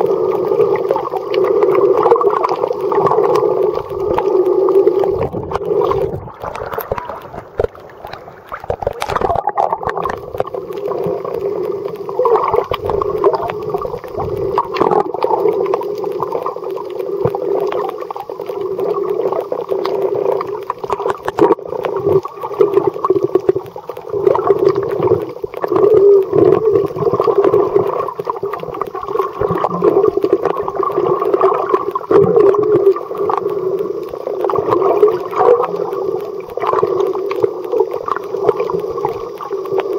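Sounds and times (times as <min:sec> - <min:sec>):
faint clicks: 0:00.0 - 0:39.9
underwater gurgling wash: 0:00.0 - 0:39.9.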